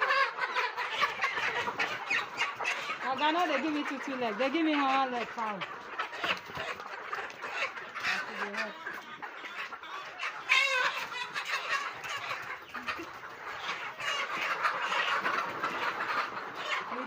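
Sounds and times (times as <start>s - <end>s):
chicken squawk: 0.0s - 17.0s
chickens clucking: 0.0s - 17.0s.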